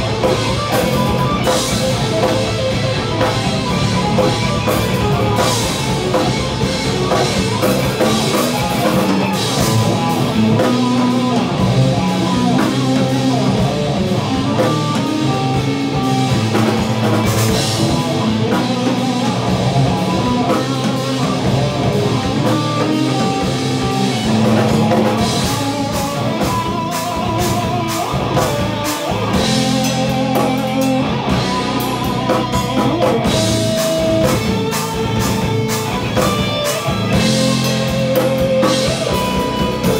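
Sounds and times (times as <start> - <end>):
bass guitar: 0.0 - 39.9
drum kit with cymbal hits: 0.0 - 39.9
electric guitars: 0.0 - 39.9.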